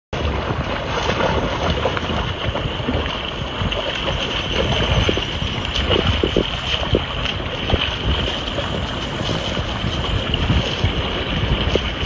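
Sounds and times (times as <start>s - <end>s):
water splashing as dogs wade: 0.2s - 12.0s
wind buffeting microphone: 0.2s - 12.0s.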